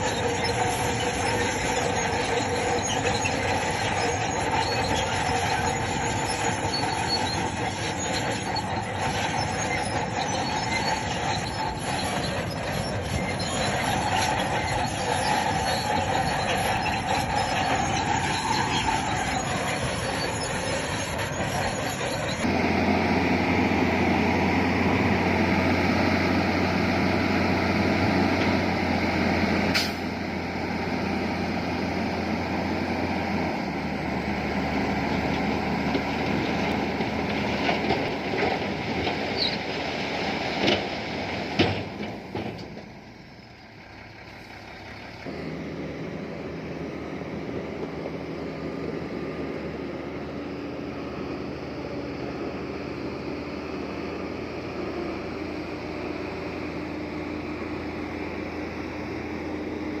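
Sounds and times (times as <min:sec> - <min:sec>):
steel tracks squealing: 0:00.0 - 0:22.5, 0:23.9 - 0:52.3
bulldozer diesel engine: 0:00.0 - 1:00.0.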